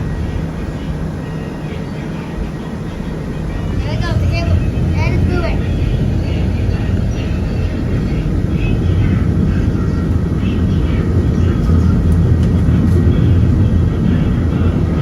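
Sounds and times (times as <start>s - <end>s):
tram car rumbling on rails: 0.0s - 15.0s.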